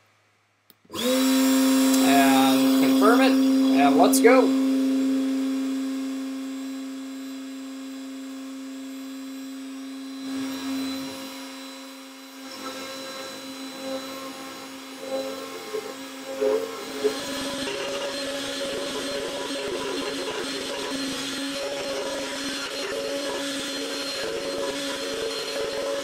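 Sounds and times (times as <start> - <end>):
router bit milling wood: 0.9 - 26.0
router spindle whine: 0.9 - 26.0.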